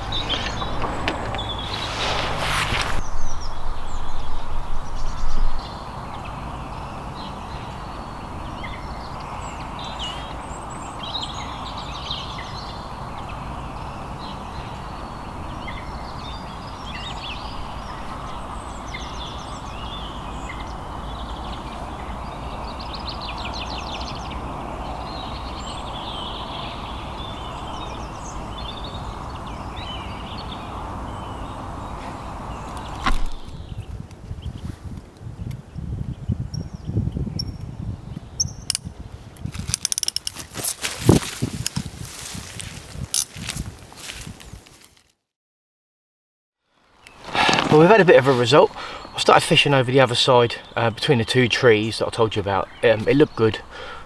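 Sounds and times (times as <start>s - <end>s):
small birds singing and chirping: 0.0s - 44.5s, 47.0s - 54.0s
outdoor background noise: 0.0s - 45.2s, 46.6s - 54.0s.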